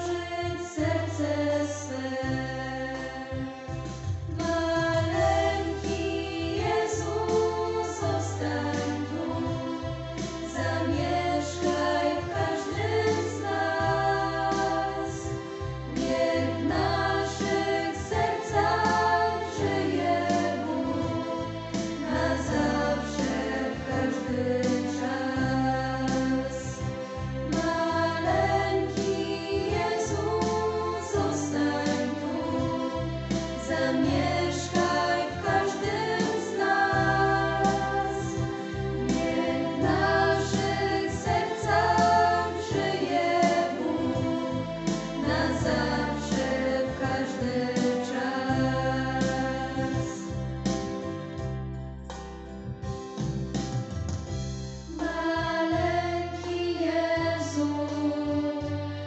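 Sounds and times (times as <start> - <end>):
girls' choir singing a carol: 0.0 - 50.7, 54.9 - 59.0
keyboard low bass notes: 0.0 - 59.0.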